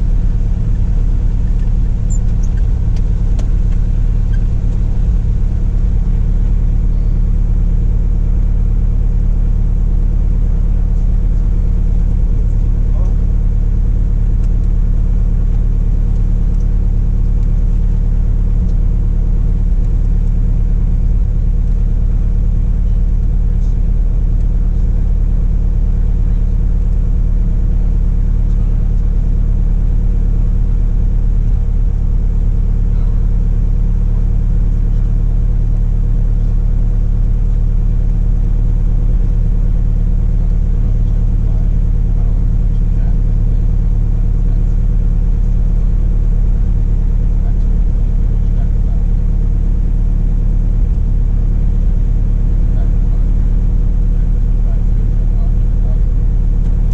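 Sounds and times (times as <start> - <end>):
aircraft engine and propeller drone: 0.0 - 53.5.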